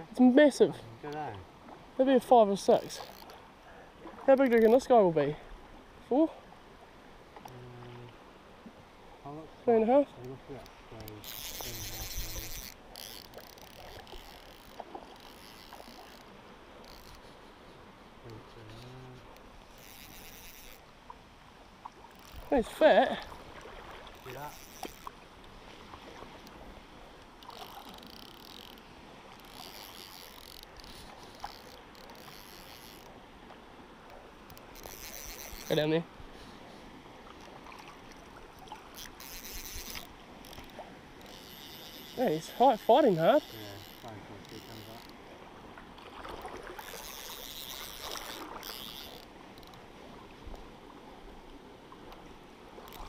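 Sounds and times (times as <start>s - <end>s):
shallow river water rippling: 0.0s - 53.0s.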